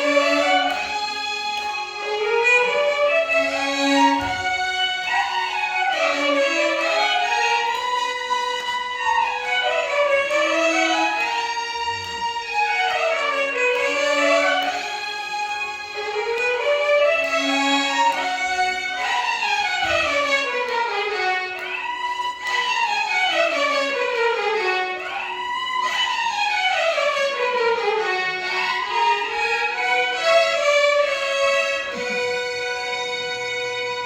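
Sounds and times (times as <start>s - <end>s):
violin orchestra sliding phrases: 0.0s - 34.0s.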